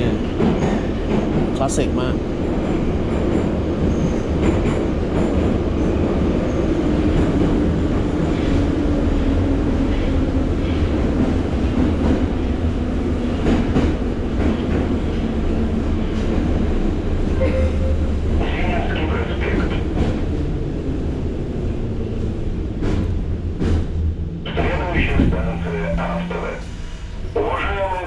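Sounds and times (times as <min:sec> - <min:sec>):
train wheels and motors rumbling: 0:00.0 - 0:28.0.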